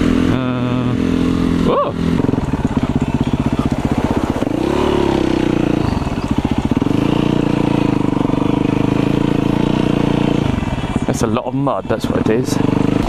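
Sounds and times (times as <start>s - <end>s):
motorcycle engine pulsing at low revs: 0.0s - 13.0s.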